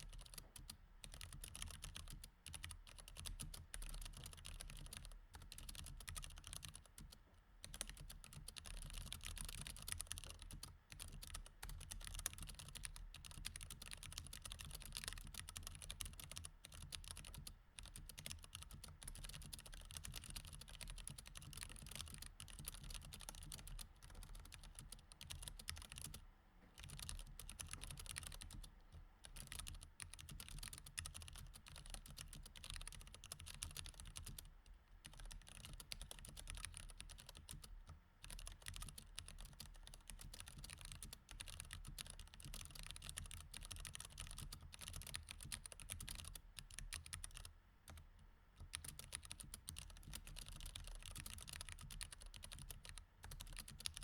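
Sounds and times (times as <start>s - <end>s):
fast typing on mechanical keyboard: 0.0s - 26.2s, 26.8s - 48.0s, 48.6s - 54.0s
faint low hum: 0.0s - 54.0s.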